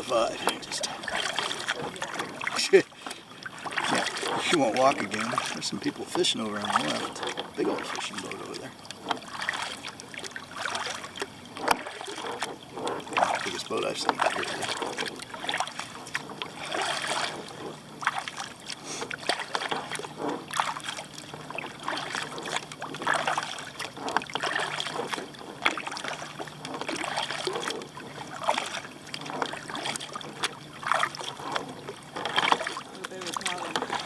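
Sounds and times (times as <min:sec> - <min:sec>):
kayak paddle splashing water: 0:00.0 - 0:34.0.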